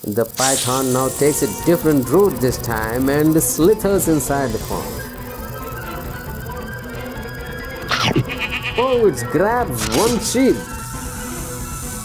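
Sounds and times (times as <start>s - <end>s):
background music with held notes: 0.9s - 12.0s.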